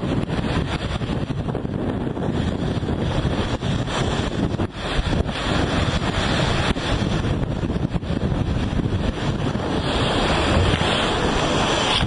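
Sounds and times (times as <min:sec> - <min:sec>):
rough sea rushing along hull: 0:00.0 - 0:12.0
wind buffeting microphone: 0:00.0 - 0:12.0.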